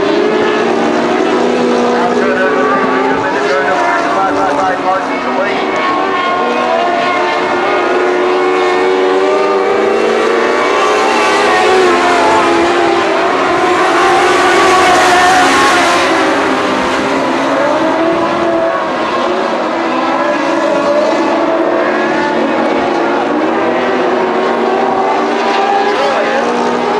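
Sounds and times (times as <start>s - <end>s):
race car engines: 0.0s - 26.9s.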